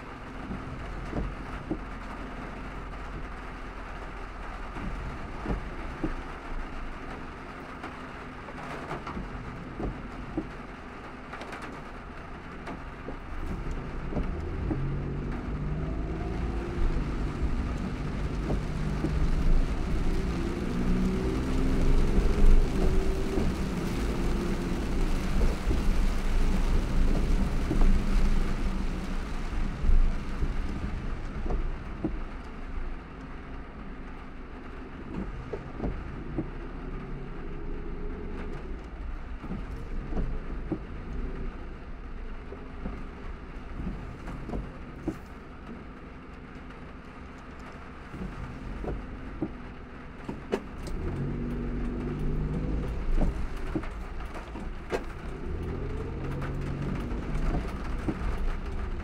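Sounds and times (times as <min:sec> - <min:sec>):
road noise: 0:00.0 - 0:59.0
sharp ticks of raindrops: 0:00.0 - 0:59.0
steady rain: 0:00.0 - 0:59.0
vehicle rumble: 0:00.0 - 0:59.0.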